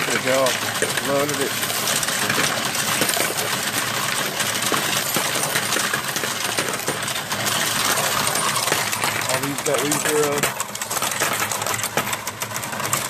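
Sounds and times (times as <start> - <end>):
coins clattering in metal hopper: 0.0 - 13.0.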